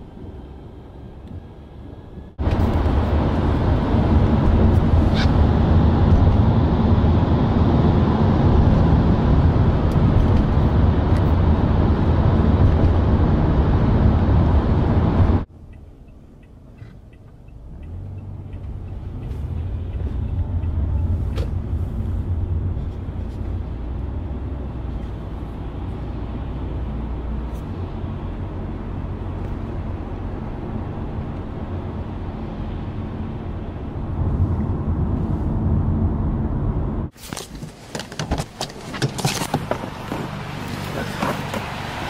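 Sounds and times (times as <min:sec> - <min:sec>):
car engine and road noise: 0:00.0 - 0:42.0
tyres on wet road: 0:00.0 - 0:42.0.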